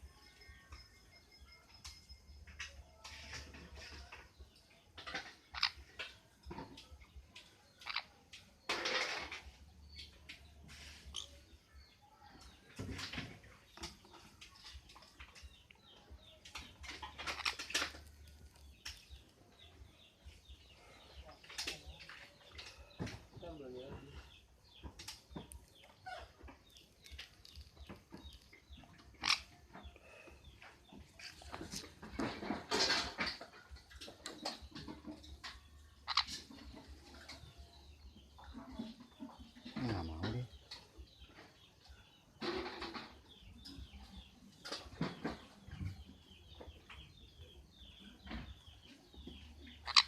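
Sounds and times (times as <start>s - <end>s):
bird chirping: 0.0s - 50.0s.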